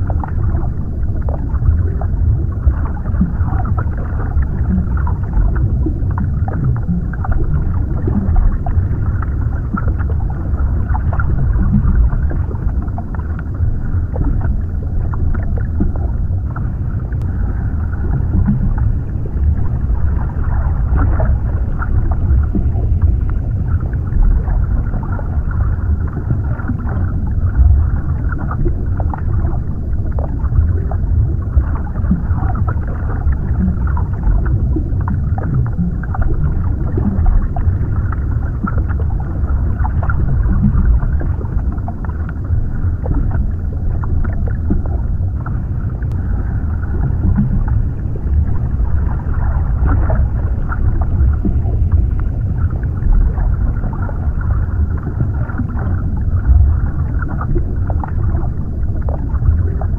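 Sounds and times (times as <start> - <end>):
muffled deep underwater rumble: 0.0 - 59.9
small underwater crackles and pops: 0.0 - 59.9.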